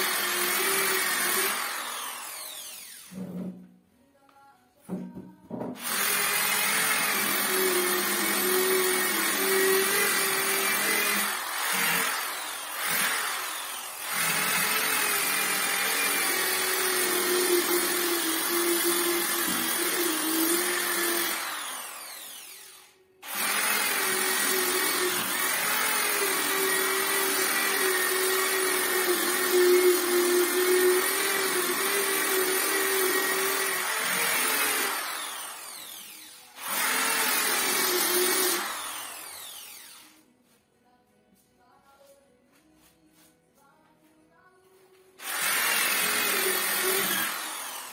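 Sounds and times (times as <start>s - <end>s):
electric sander on wood: 0.0s - 3.2s, 5.8s - 40.0s, 45.2s - 47.9s.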